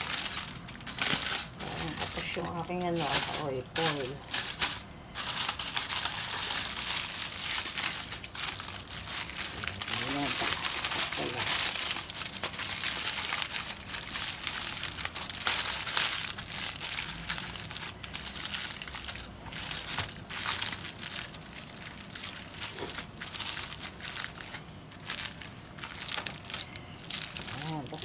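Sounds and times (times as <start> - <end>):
aluminium foil crinkling: 0.0 - 28.0.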